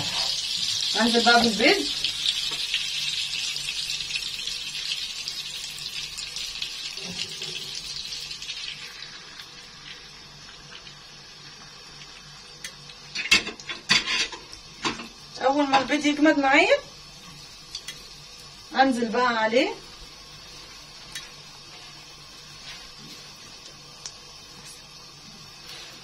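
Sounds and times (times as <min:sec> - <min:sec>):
butter sizzling in a frying pan: 0:00.0 - 0:26.0.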